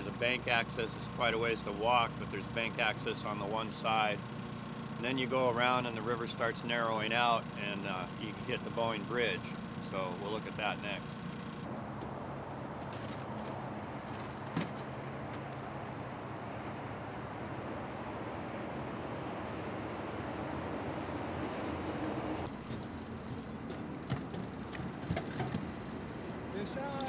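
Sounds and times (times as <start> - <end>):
steady engine hum: 0.0 - 27.0.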